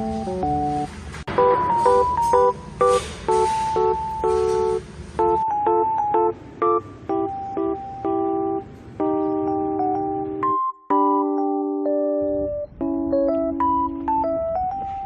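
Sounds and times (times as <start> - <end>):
light instrumental music: 0.0 - 15.0.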